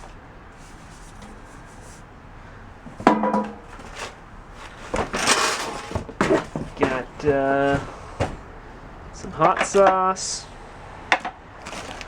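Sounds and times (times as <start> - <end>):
items knocking: 0.0 - 12.0
rustling: 0.0 - 12.0.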